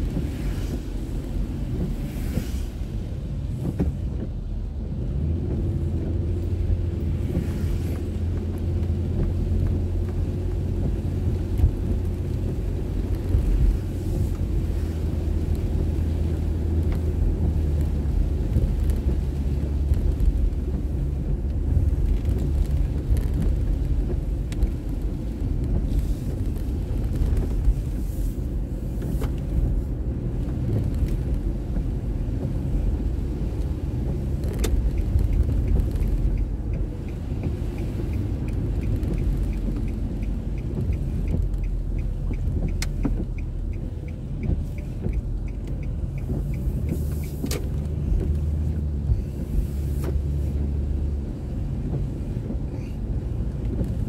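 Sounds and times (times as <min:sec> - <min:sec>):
engine and road rumble: 0:00.0 - 0:54.0
turn signal ticking: 0:00.0 - 0:54.0.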